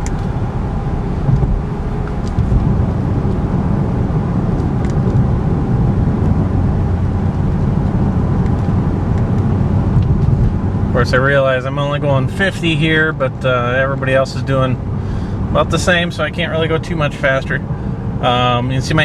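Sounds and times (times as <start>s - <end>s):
car interior road rumble: 0.0s - 19.0s.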